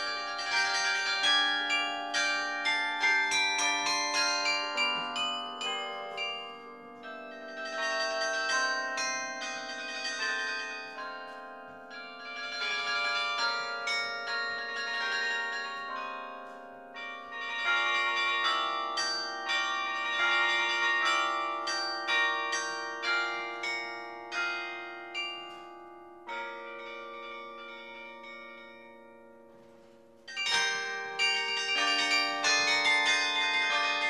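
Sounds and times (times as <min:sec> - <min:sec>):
carillon bells melody: 0:00.0 - 0:34.0.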